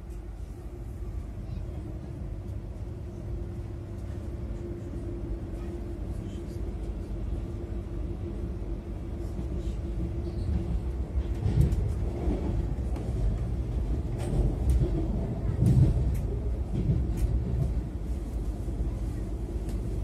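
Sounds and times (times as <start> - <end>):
constant hum: 0.0 - 20.0
train rumble inside car: 0.0 - 20.0.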